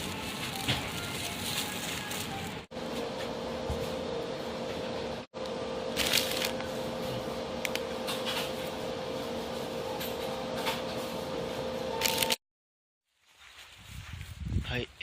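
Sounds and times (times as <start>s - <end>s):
steady machine hum: 0.0s - 12.4s.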